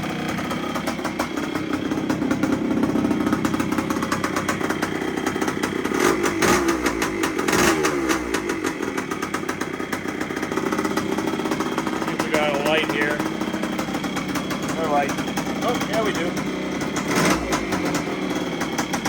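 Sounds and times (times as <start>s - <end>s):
engine throttle blips: 0.0s - 19.0s
two-stroke engine idling: 0.0s - 19.0s.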